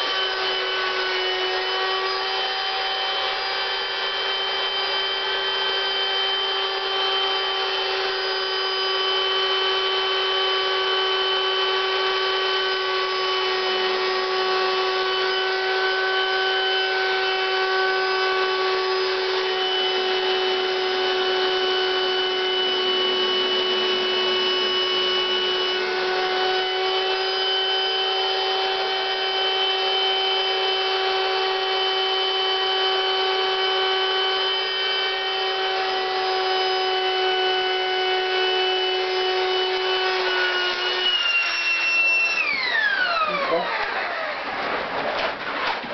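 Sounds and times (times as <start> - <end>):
electric air pump whining: 0.0 - 45.9.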